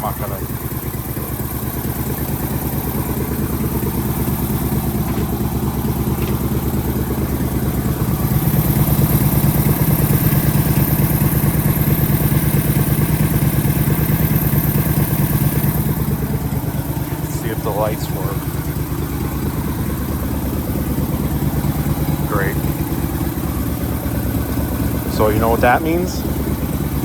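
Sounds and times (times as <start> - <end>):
v-twin engine running: 0.0 - 27.0.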